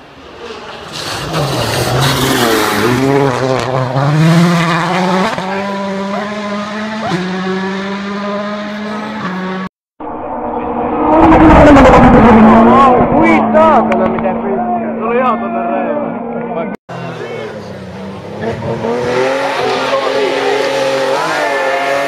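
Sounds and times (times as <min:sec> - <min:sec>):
rally car engine revving: 0:00.2 - 0:09.7, 0:10.3 - 0:22.0.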